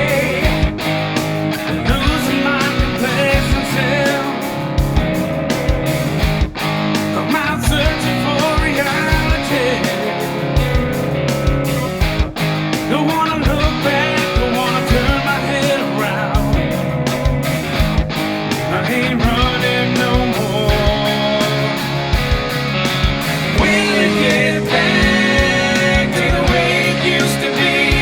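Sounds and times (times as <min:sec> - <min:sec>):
lead guitar bending in pitch: 0:00.0 - 0:28.0
rock band playing instrumental: 0:00.0 - 0:28.0.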